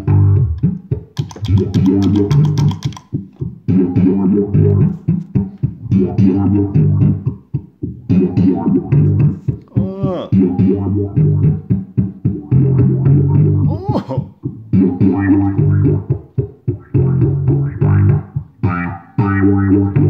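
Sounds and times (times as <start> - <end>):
looped electric bass line: 0.0 - 20.0.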